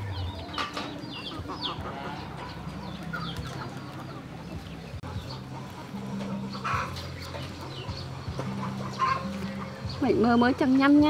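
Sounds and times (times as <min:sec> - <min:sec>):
chickens clucking: 0:00.0 - 0:11.0
small birds chirping: 0:00.0 - 0:11.0.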